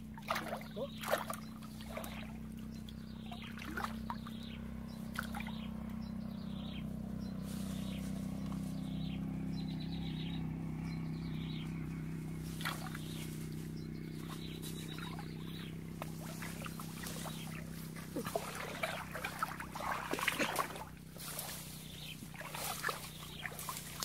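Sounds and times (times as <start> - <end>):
birds chirping: 0.0 - 24.0
shrubs rustling: 0.0 - 24.0
steady low hum: 0.0 - 24.0
wading in shallow water: 0.0 - 24.0.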